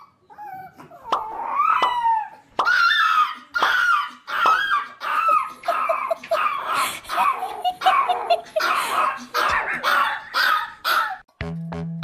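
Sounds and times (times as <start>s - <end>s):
small dog whining: 0.0s - 11.2s.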